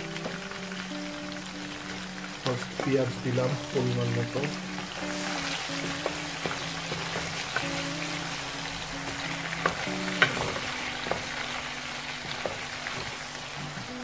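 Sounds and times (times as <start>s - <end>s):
onions sizzling in hot oil: 0.0s - 14.0s.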